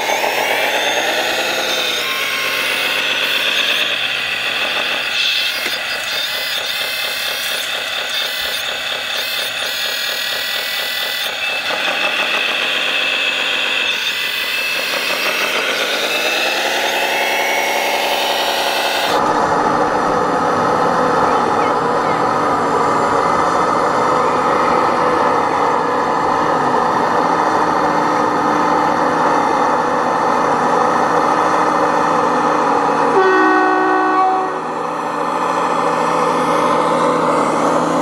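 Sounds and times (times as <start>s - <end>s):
electric motor whine: 0.0s - 38.0s.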